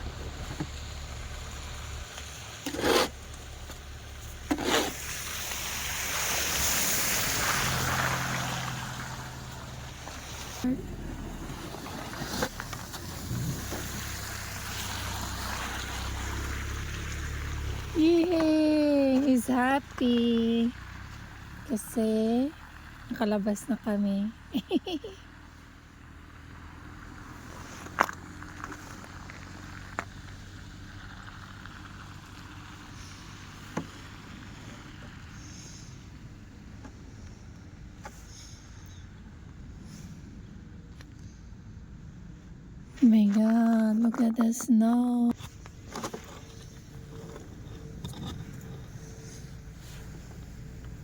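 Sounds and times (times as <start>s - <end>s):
car engine droning: 0.0s - 42.5s, 45.3s - 51.0s.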